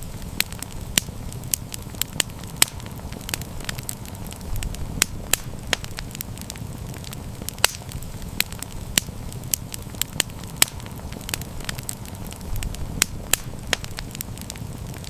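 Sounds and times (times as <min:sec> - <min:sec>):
rumble of flames: 0:00.0 - 0:15.0
wood fire crackling: 0:00.0 - 0:15.0.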